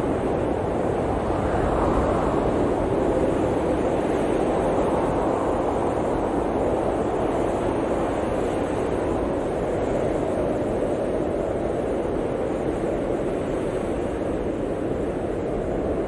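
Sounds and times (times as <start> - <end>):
blizzard wind rushing: 0.0 - 16.0.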